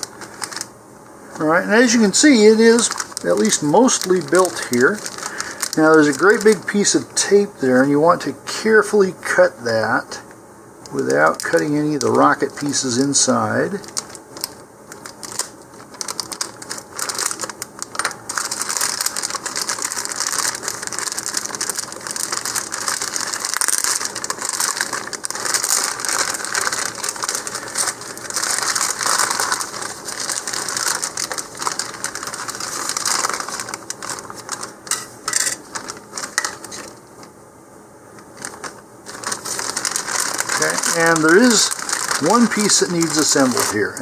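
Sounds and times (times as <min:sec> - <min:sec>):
plastic bag crinkling: 0:00.0 - 0:00.7, 0:01.3 - 0:09.4, 0:10.9 - 0:37.4, 0:38.2 - 0:44.0.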